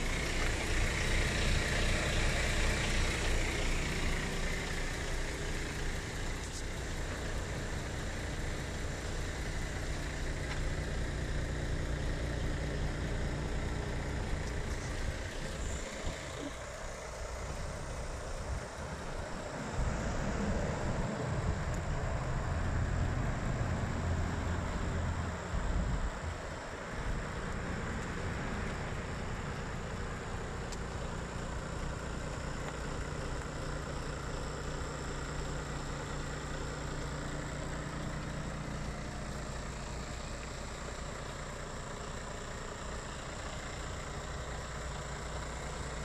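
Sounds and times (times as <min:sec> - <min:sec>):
truck diesel engine idling: 0:00.0 - 0:46.0.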